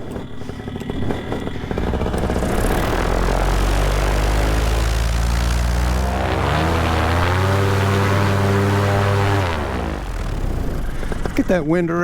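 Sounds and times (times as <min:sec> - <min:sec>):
paramotor engine droning: 0:00.0 - 0:11.8.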